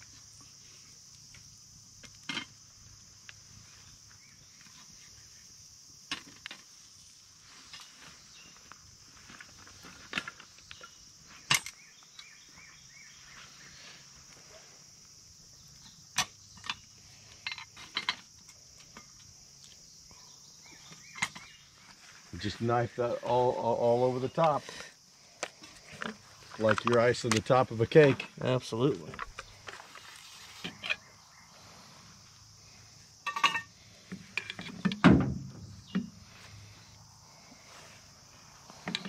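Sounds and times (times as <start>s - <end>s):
crickets chirring: 0.0s - 39.0s.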